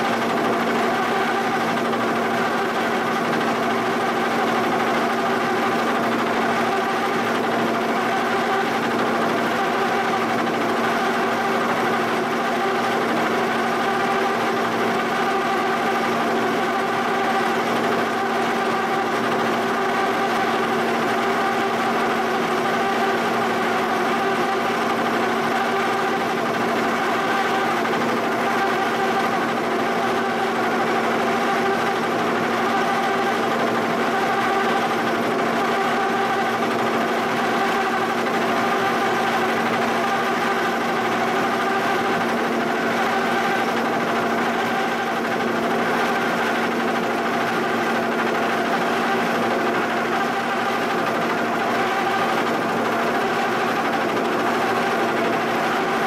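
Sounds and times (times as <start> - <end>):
machine hum: 0.0 - 56.0.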